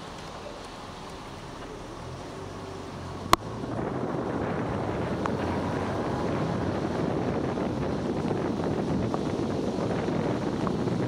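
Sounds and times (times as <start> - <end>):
tyre hiss on wet road: 0.0 - 11.0
wind on microphone: 1.7 - 11.0.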